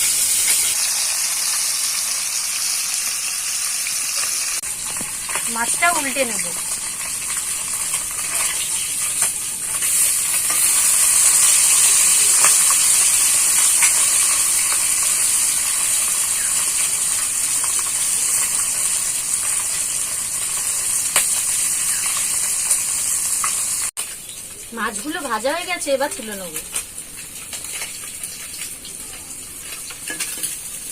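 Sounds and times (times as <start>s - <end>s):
fish sizzling in hot oil: 0.0s - 30.9s.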